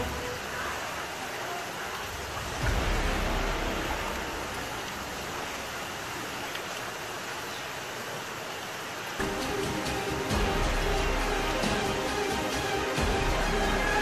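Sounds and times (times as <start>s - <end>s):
rain falling on water: 0.0s - 14.0s.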